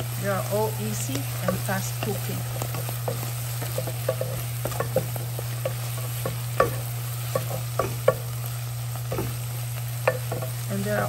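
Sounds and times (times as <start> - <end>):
soft sizzle: 0.0 - 11.0
steady low hum: 0.0 - 11.0
wooden spatula scraping skillet: 1.0 - 11.0.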